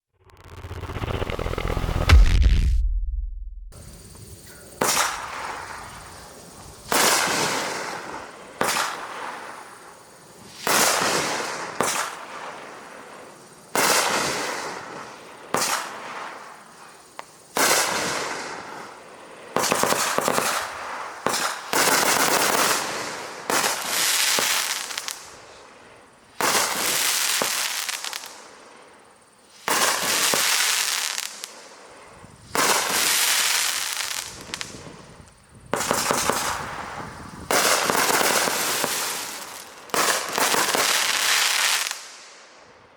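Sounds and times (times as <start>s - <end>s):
rushing noise of fireworks: 0.0s - 42.9s.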